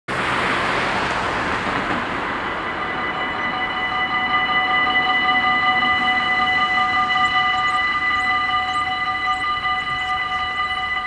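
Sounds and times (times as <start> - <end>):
car driving over crossing: 0.1 - 11.0
level crossing warning bells: 0.1 - 11.0.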